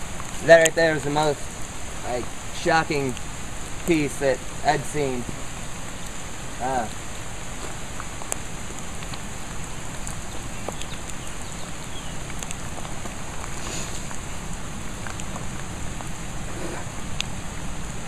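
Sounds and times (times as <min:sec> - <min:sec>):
steady hiss with faint ticks: 0:00.0 - 0:18.0.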